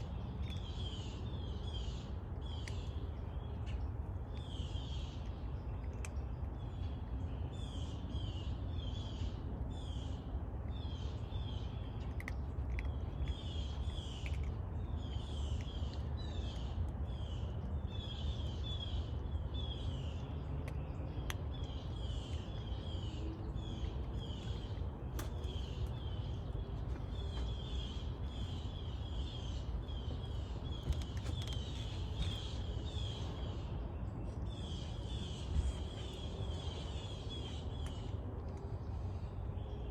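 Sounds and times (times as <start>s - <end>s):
birds chirping: 0.0s - 39.9s
steady low rumble: 0.0s - 39.9s.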